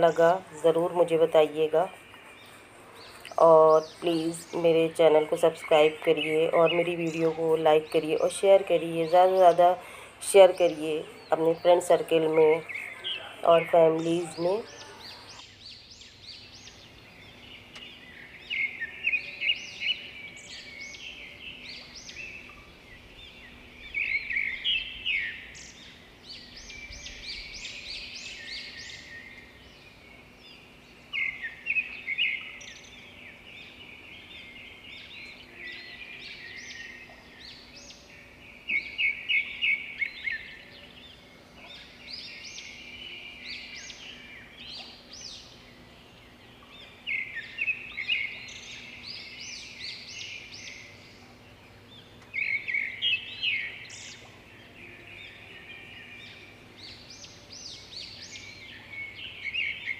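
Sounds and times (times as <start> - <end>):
birds chirping and trilling: 0.0 - 59.9
faint steady hum: 0.0 - 59.9.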